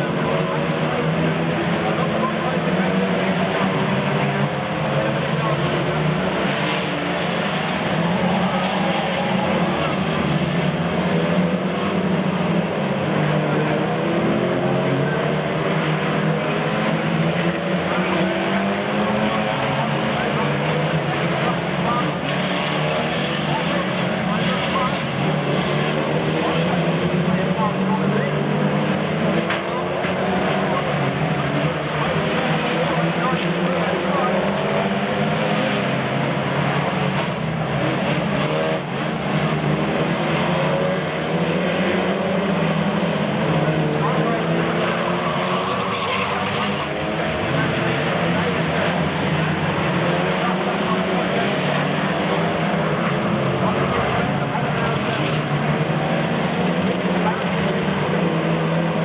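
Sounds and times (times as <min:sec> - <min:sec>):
race car engines running hard: 0:00.0 - 0:59.0.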